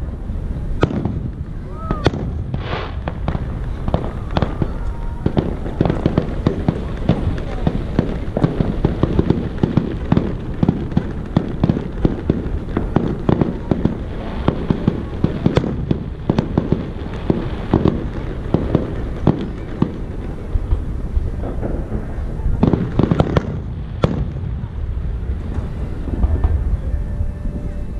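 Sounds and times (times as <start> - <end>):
fireworks bursts and bangs: 0.0 - 27.9.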